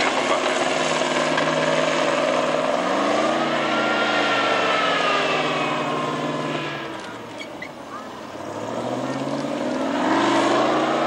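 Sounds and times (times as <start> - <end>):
tracked vehicle engine under load: 0.0 - 11.0.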